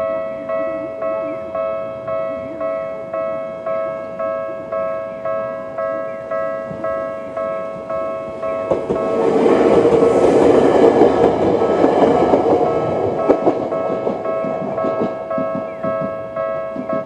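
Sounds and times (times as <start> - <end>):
level crossing warning bell: 0.0 - 17.0
train wheels on rails: 0.0 - 17.0
wheels clicking over rail joints: 0.4 - 17.0.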